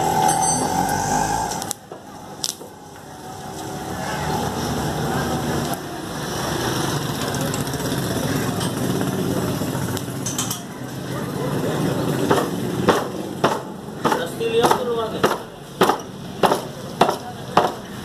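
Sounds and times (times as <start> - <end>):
vehicle engine running: 0.0 - 15.1
faint background voices: 1.9 - 18.0.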